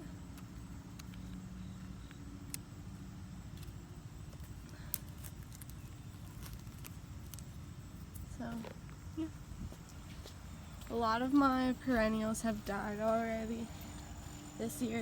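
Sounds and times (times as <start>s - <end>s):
light hum: 0.0s - 15.0s
low outdoor rumble: 0.0s - 15.0s.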